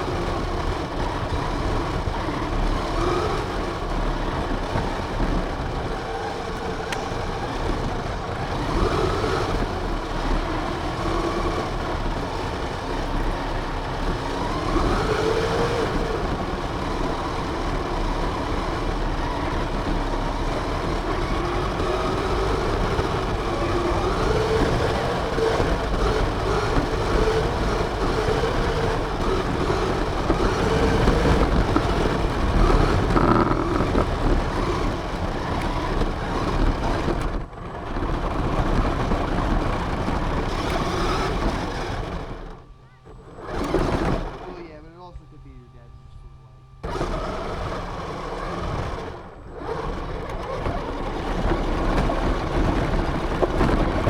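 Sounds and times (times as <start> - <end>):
rc car motor whine: 0.0 - 54.0
wheels rumbling on ground: 0.0 - 54.0.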